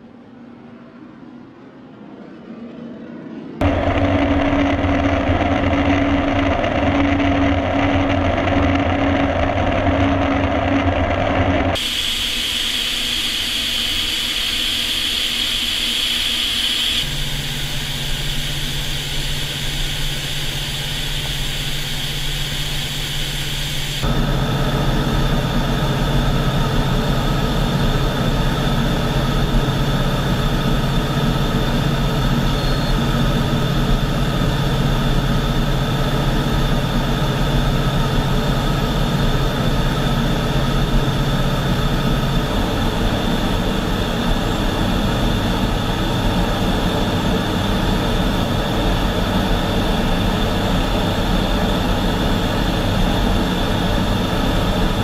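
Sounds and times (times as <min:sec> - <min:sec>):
jet engine drone: 0:00.0 - 0:55.0
held whining tones: 0:03.6 - 0:55.0
rushing air: 0:03.6 - 0:55.0.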